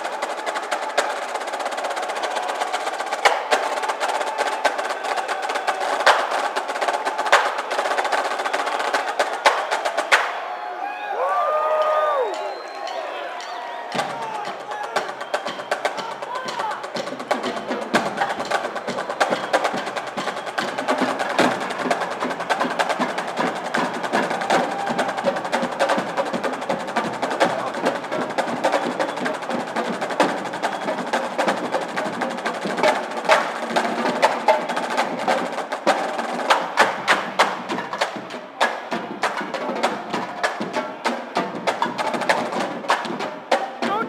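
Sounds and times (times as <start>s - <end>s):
drumline playing cadence: 0.0s - 44.0s.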